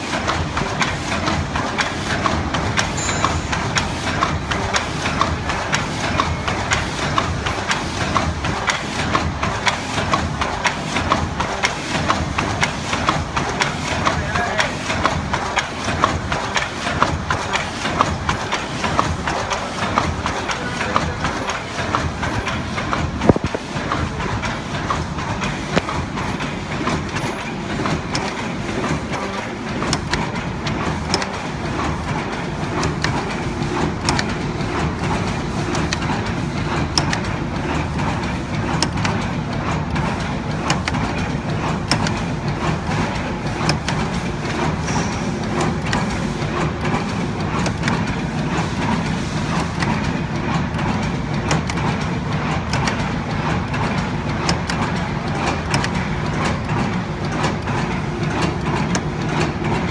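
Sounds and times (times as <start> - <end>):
machine clattering: 0.0 - 59.9.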